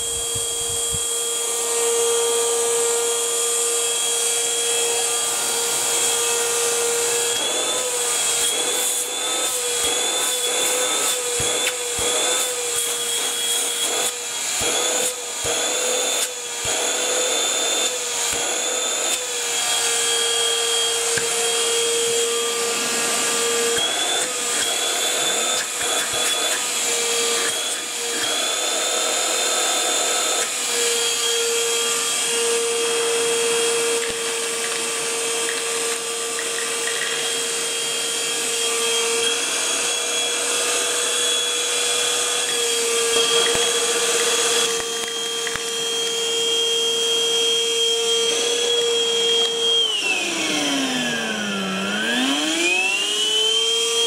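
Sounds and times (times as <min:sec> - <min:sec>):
vacuum cleaner motor whine: 0:00.0 - 0:54.0.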